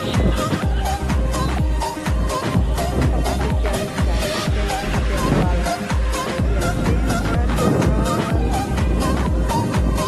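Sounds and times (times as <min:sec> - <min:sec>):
high synth melody: 0:00.0 - 0:10.0
kick drum: 0:00.1 - 0:10.0.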